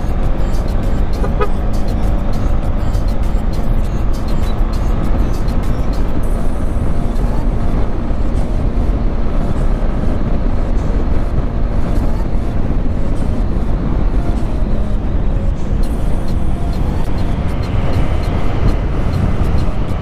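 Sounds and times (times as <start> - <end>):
motorcycle engine cruising: 0.0 - 20.0
wind rushing on microphone: 0.0 - 20.0.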